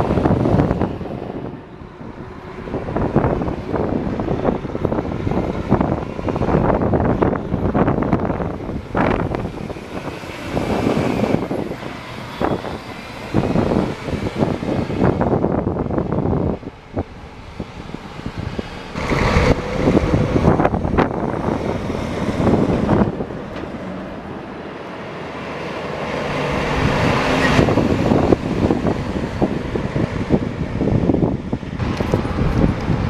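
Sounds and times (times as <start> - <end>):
heavy trucks driving past: 0.0 - 33.0.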